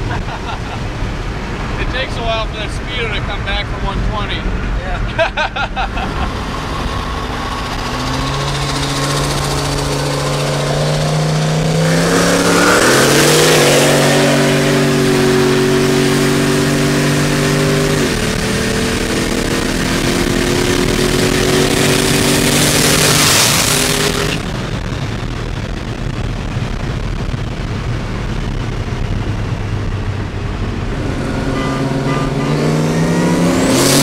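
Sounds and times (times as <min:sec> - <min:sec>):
truck engine pulling hard: 0:00.0 - 0:34.0.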